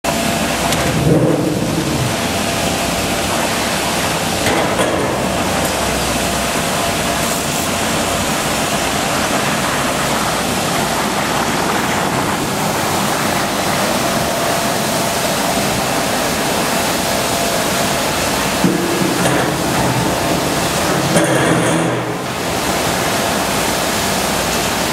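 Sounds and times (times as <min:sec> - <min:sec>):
washing machine water churning: 0:00.0 - 0:24.9.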